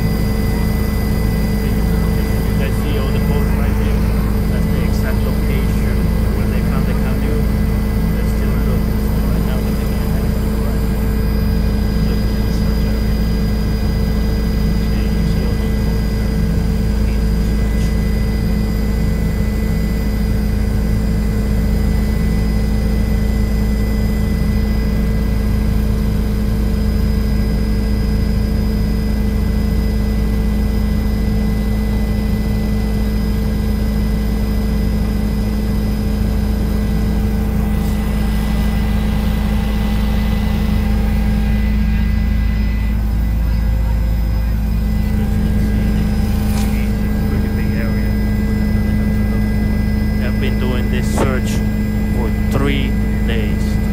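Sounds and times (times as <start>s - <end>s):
constant high whine: 0.0s - 53.9s
helicopter rotor and engine drone: 0.0s - 53.9s.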